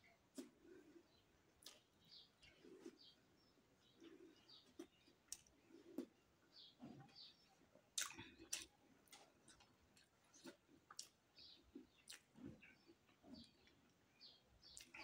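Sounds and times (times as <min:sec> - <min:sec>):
soft chewing and mouth clicks: 0:00.0 - 0:15.0.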